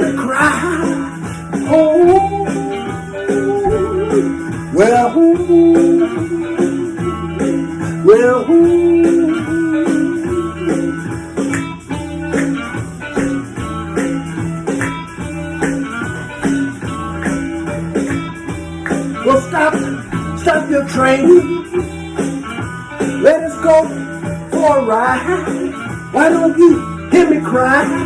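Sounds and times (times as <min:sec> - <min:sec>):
blues band playing: 0:00.0 - 0:28.0
guitar riff: 0:00.0 - 0:28.0.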